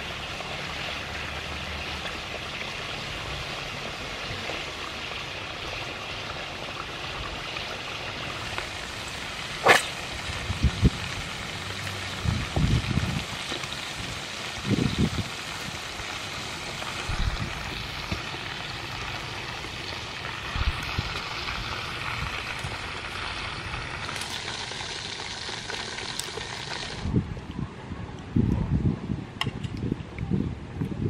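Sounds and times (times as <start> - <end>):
squid sizzling in hot oil: 0.1 - 27.0.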